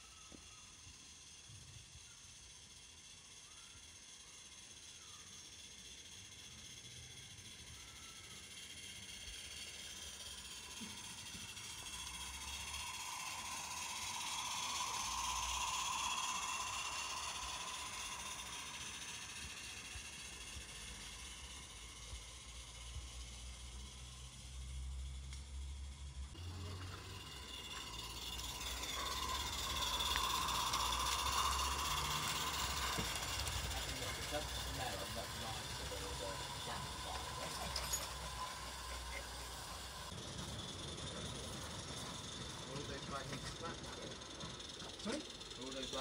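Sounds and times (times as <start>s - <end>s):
model train running on track: 0.0s - 46.0s
steam hiss: 0.0s - 46.0s.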